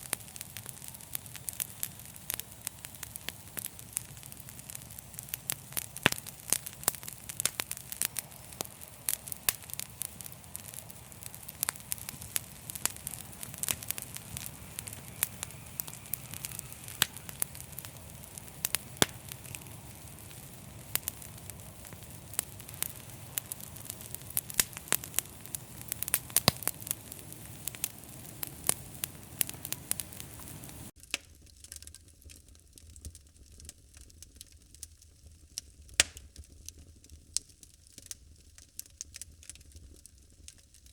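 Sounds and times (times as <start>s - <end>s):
fire crackling and popping: 0.0s - 40.9s
low fire hiss: 0.0s - 40.9s.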